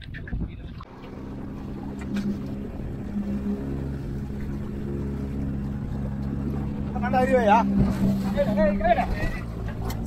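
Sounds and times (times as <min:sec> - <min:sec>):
boat engine running: 0:00.3 - 0:10.0
sea washing around hull: 0:00.7 - 0:10.0.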